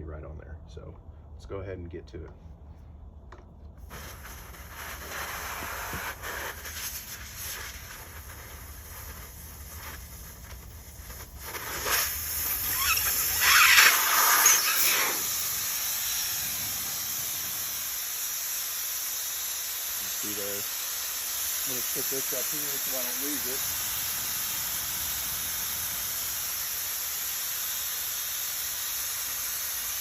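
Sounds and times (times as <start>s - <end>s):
air hissing from tire valve: 3.8s - 30.0s.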